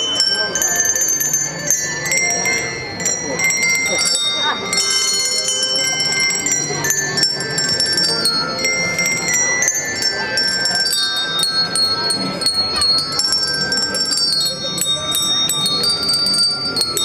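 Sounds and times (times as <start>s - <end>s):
bells ringing a tune: 0.0s - 17.0s.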